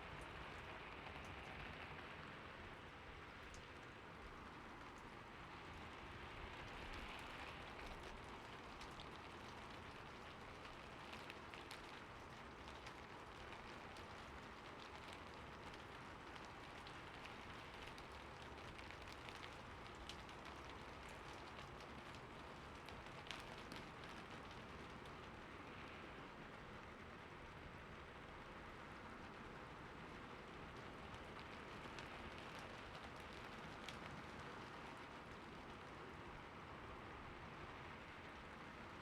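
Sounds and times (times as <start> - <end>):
light rain falling: 0.0 - 39.0
raindrops ticking on a surface: 0.0 - 39.0.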